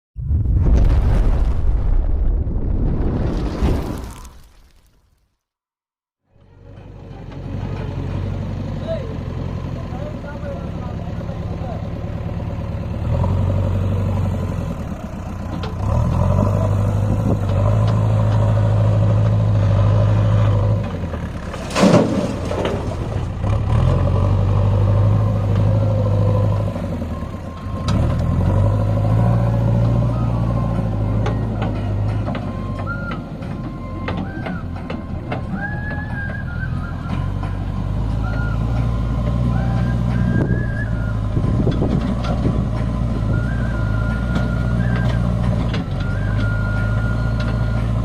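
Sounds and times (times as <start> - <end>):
diesel engine labouring: 6.3 - 48.0.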